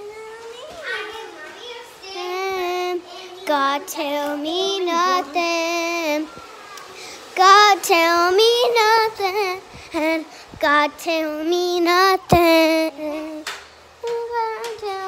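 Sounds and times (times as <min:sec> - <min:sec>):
girl singing: 0:01.6 - 0:15.0.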